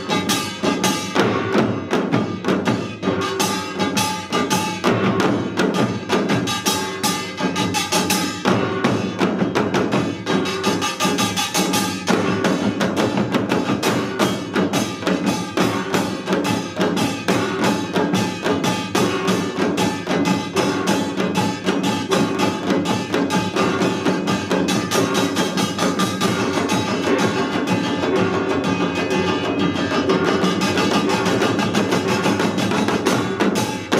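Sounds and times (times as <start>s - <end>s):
hourglass drums and barrel drums: 0.0s - 33.9s.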